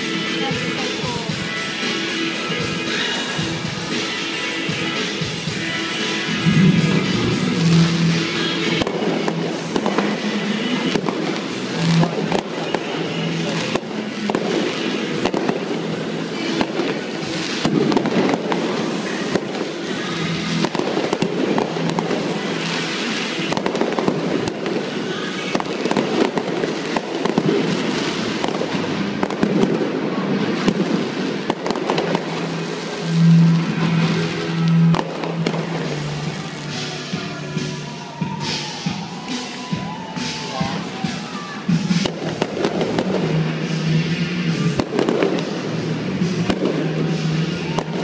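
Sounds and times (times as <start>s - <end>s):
fireworks bangs: 0.0s - 48.0s
music playing: 0.0s - 48.0s.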